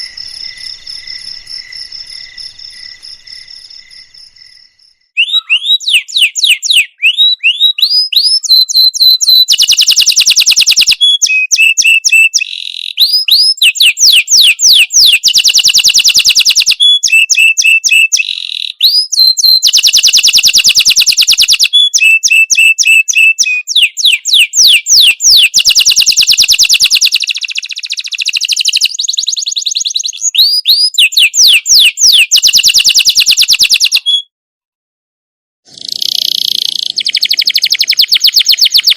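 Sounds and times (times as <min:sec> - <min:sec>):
songbird singing trilled notes: 0:00.0 - 0:20.6, 0:21.2 - 0:34.3, 0:35.8 - 0:38.9.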